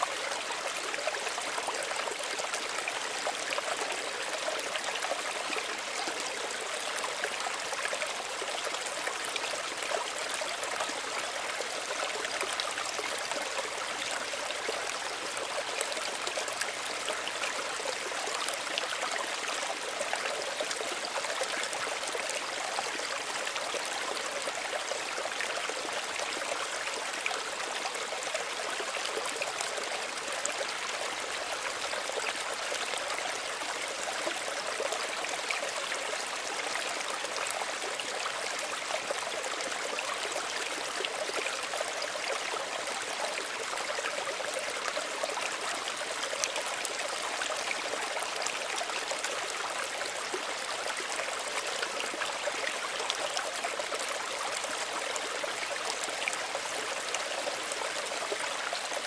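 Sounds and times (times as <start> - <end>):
stream water over rocks: 0.0 - 59.0.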